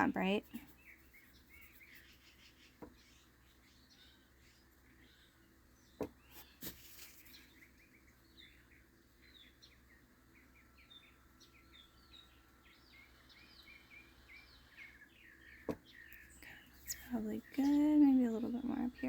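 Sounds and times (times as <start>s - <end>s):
faint songbirds chirping: 0.0s - 19.0s.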